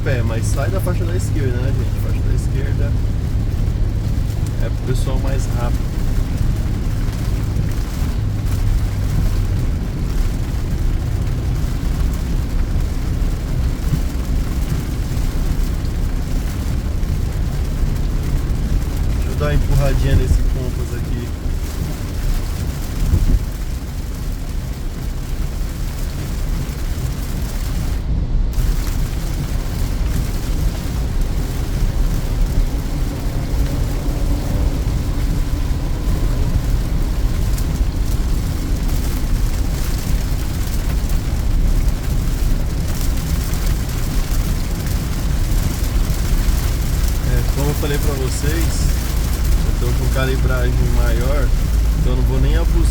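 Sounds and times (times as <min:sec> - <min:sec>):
engine and tyre rumble: 0:00.0 - 0:52.9
water spray from wet road: 0:00.0 - 0:52.9.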